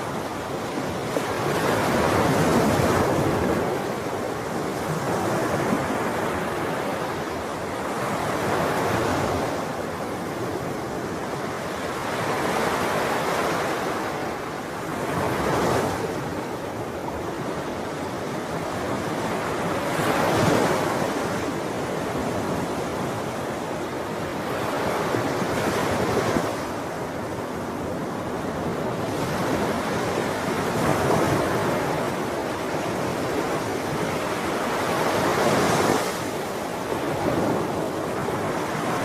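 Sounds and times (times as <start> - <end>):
sea waves breaking on shore: 0.0 - 39.0.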